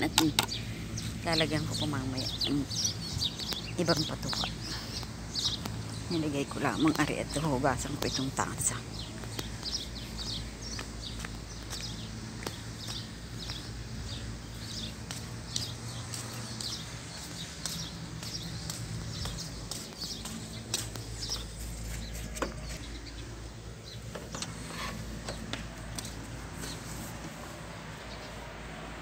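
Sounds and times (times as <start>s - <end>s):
small birds chirping: 0.0s - 28.6s.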